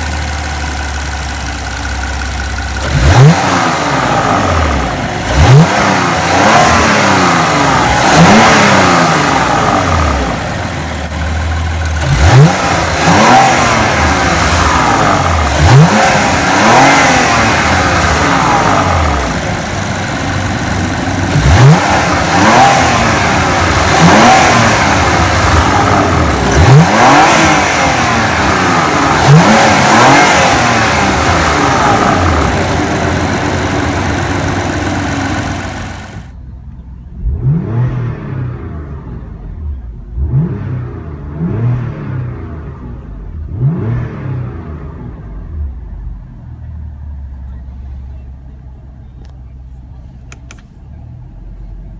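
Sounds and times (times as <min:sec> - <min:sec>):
car engine revving: 0:00.0 - 0:47.6.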